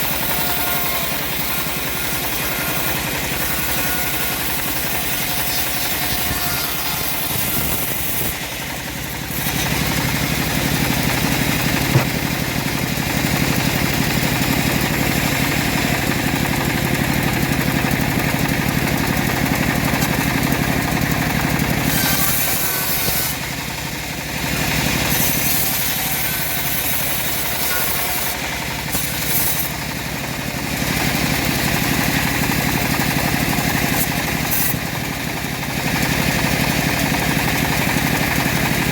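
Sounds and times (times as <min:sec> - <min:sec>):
engine-driven bandsaw running: 0:00.0 - 0:38.9.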